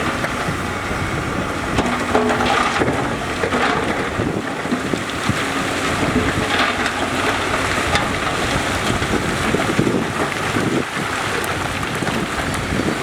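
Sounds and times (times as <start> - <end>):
diesel earthmoving machinery running: 0.0 - 13.0
knocks and clatter: 1.7 - 12.7.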